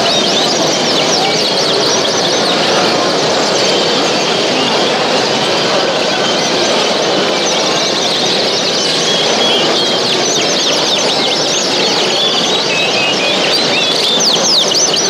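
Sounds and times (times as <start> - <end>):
background hubbub: 0.0 - 15.0
birds chirping and singing: 0.0 - 15.0.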